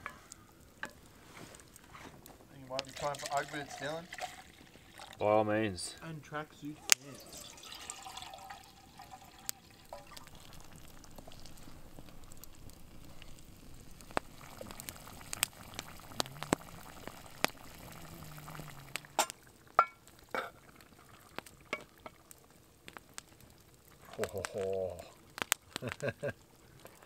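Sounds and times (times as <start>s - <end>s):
campfire crackling and popping: 0.0s - 27.0s
stew simmering in pot: 0.0s - 27.0s.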